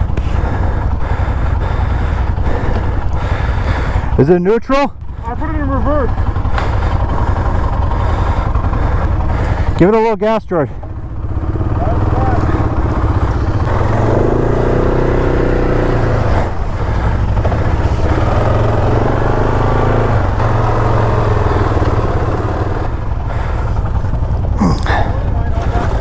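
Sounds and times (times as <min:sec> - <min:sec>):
quad engine revving: 0:00.0 - 0:26.0.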